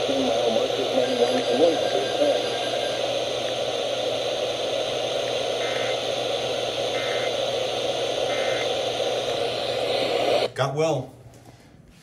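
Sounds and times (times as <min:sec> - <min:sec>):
radio static hiss: 0:00.0 - 0:10.5
warbling data bursts: 0:00.0 - 0:10.5.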